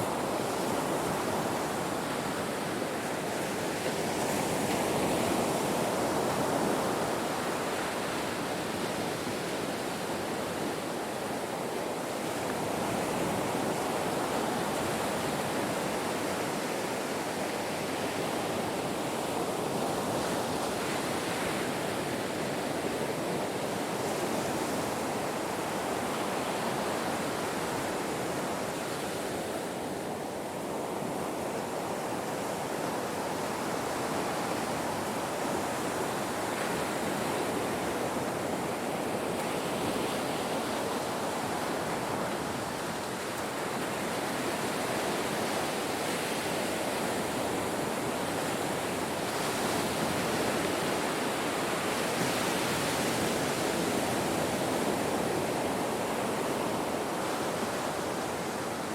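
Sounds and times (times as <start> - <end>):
ocean surf washing ashore: 0.0 - 58.9.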